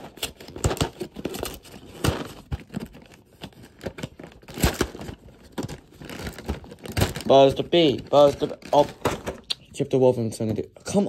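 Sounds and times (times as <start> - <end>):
cardboard box tearing and crinkling: 0.0 - 9.1.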